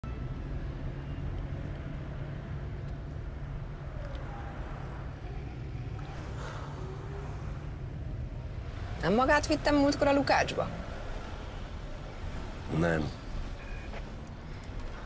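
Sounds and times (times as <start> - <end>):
vehicle cabin rumble in traffic: 0.0 - 15.0.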